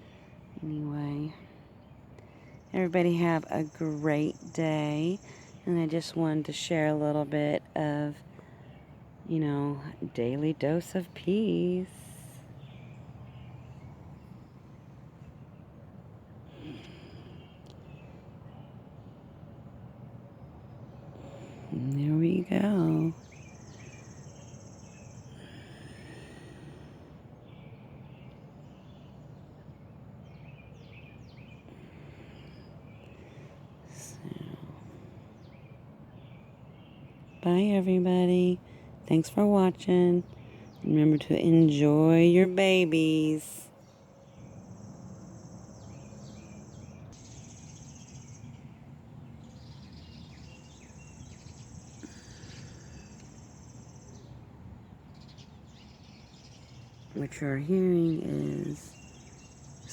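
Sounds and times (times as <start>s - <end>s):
birds chirping: 0.0s - 59.9s
low background rumble: 0.0s - 59.9s.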